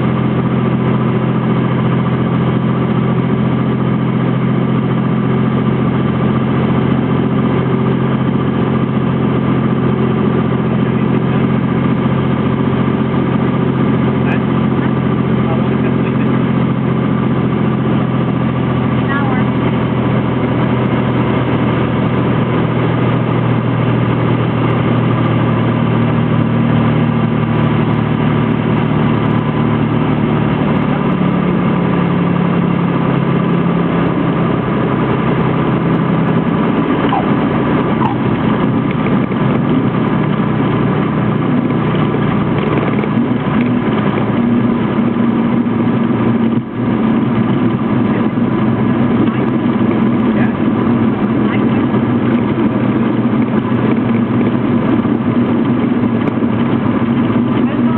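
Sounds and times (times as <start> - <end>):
airplane engine and propeller: 0.0 - 57.9.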